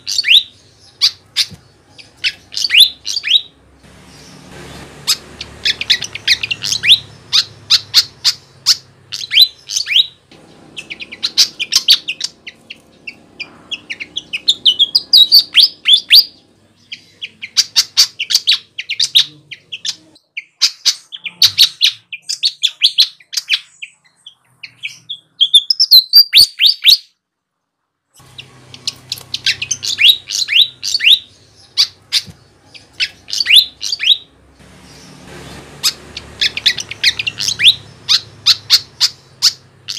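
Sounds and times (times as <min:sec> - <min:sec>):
bird singing high chirps: 0:00.0 - 0:27.2, 0:28.2 - 0:39.9.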